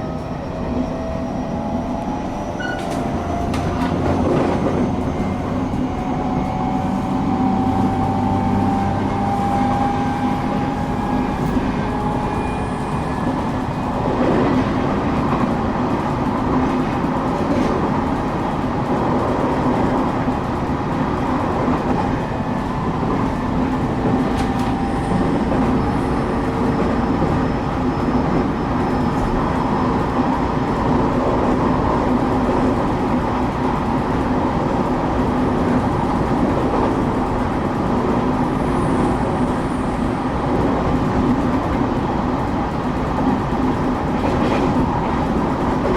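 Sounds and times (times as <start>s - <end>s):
train rumble and hum: 0.0s - 45.9s.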